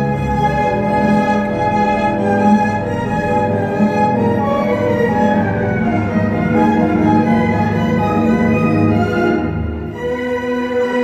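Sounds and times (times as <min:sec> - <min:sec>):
orchestral strings playing: 0:00.0 - 0:11.0.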